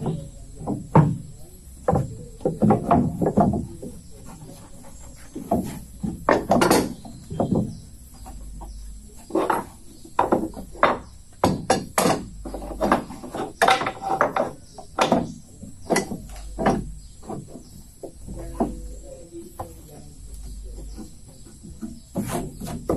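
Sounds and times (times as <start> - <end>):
sharp knocks on wood: 0.0 - 4.2, 5.3 - 19.0, 20.8 - 22.9.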